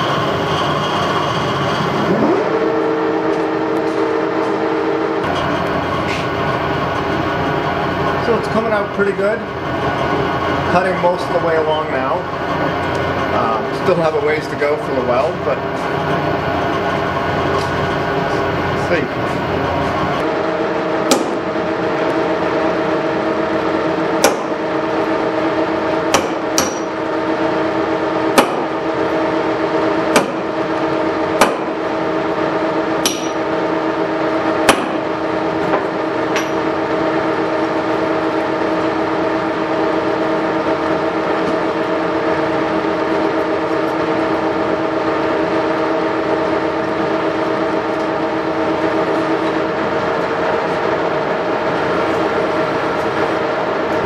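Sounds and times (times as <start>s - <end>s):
lathe geared whine: 0.0s - 54.0s.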